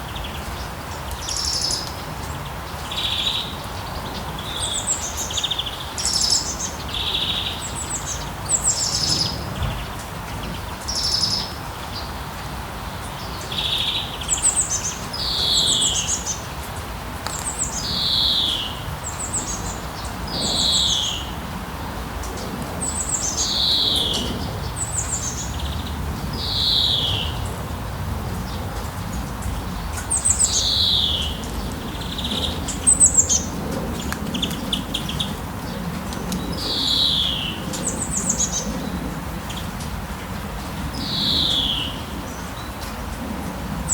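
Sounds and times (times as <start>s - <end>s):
rain hiss: 0.0s - 43.9s.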